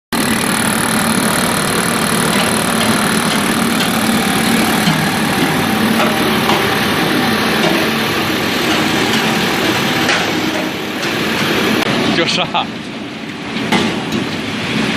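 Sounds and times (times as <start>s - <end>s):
high machine whine: 0.1s - 14.9s
machine din with hum: 0.2s - 14.9s.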